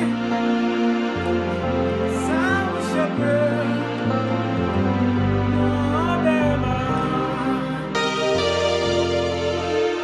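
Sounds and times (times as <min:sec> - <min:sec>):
high string line with vibrato: 0:00.0 - 0:10.0
string ensemble sustained chords: 0:00.0 - 0:10.0.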